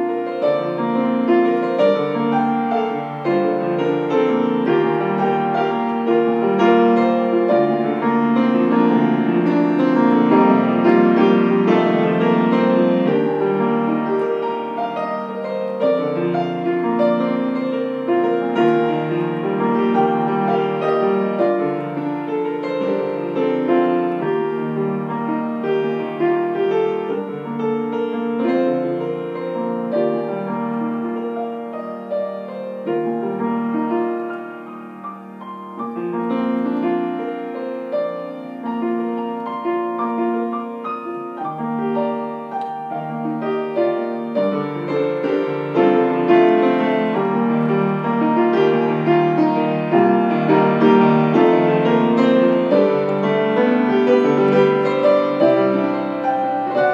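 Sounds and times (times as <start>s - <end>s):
grand piano improvisation: 0.0s - 56.9s.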